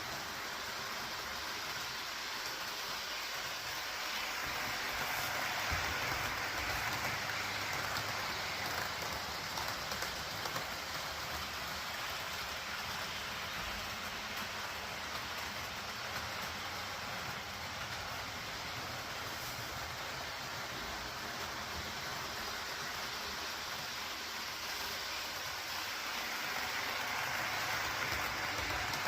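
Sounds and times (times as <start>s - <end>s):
train running on track: 0.0s - 29.0s.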